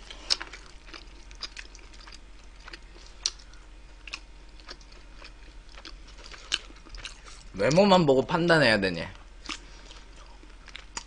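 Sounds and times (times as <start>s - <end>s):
person chewing: 0.0s - 7.8s, 9.4s - 11.0s.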